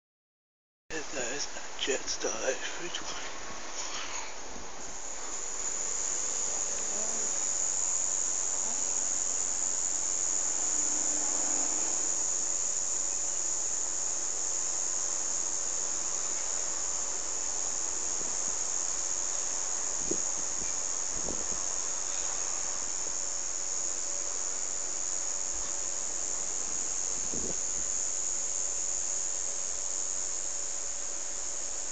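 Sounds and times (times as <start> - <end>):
insect chorus drone: 0.9 - 31.9.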